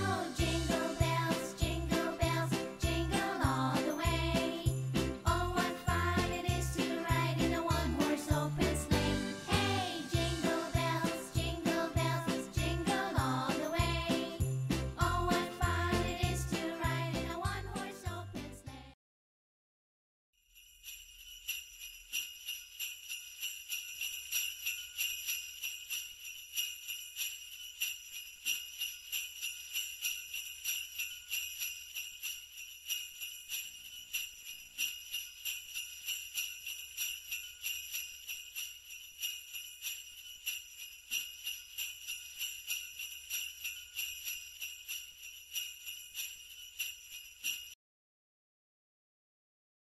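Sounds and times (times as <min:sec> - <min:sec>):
sleigh bells shaken: 0:00.0 - 0:18.9, 0:20.4 - 0:47.8.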